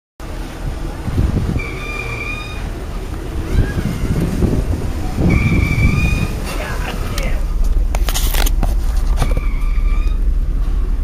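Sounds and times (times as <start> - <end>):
car engine whine and rumble: 0.2 - 11.0
wind on microphone: 0.2 - 11.0.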